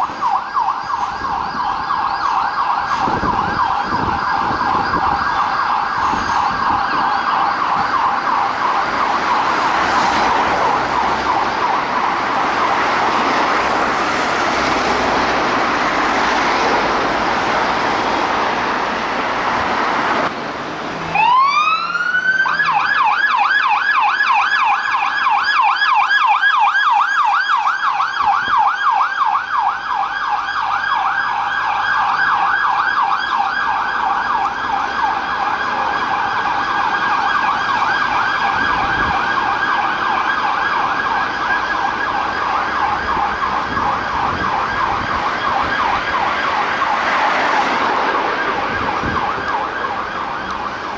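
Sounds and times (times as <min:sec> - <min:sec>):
police siren yelping: 0:00.0 - 0:19.4, 0:21.1 - 0:50.9
traffic noise: 0:00.0 - 0:50.9.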